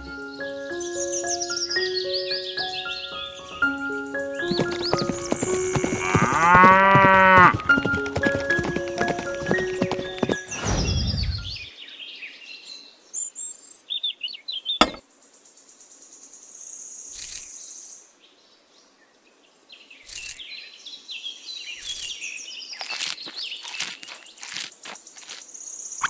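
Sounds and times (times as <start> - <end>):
small birds chirping: 0.0 - 5.9, 9.6 - 26.0.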